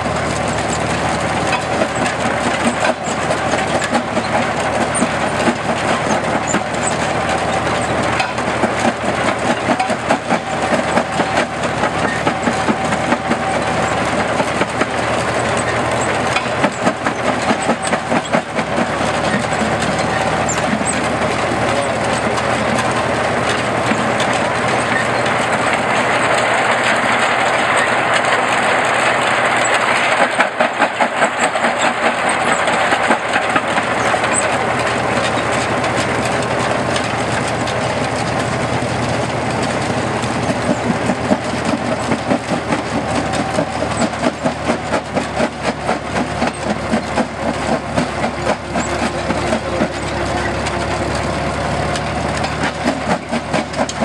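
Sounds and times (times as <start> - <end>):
rock crusher rhythmic clatter: 0.0 - 54.0
tractor engine: 0.0 - 54.0.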